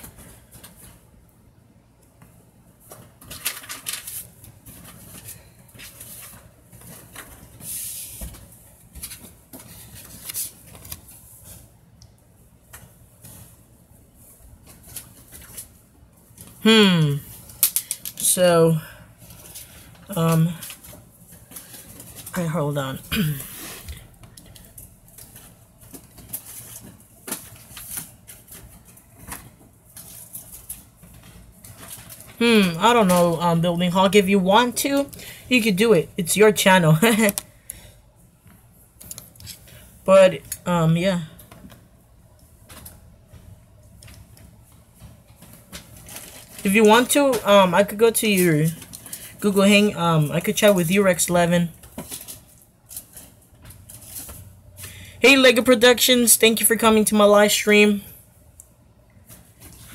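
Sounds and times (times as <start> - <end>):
low room noise: 0.0 - 59.9.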